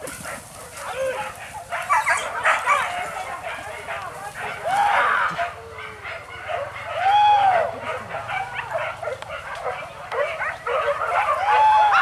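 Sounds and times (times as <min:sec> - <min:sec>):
dogs yelping and baying: 0:00.0 - 0:12.0
dog howling: 0:00.8 - 0:12.0.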